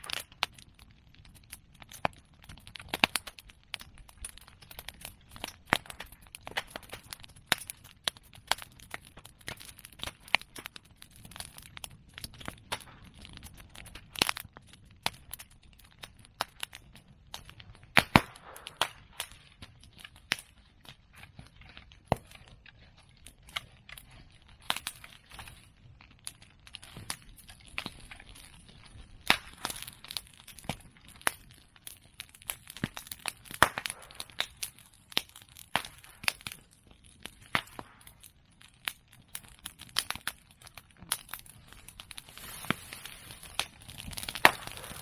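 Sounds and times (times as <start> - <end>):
bonfire crackling and popping: 0.0 - 45.0
loud cracks from fire: 0.0 - 45.0.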